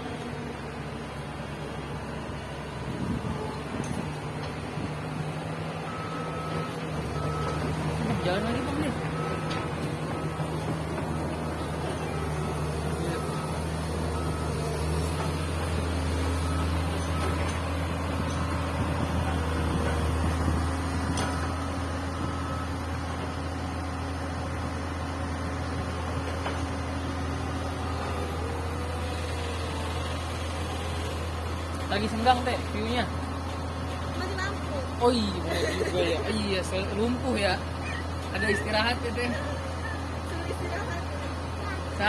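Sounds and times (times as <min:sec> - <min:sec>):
excavator diesel engine drone: 0:00.0 - 0:42.0.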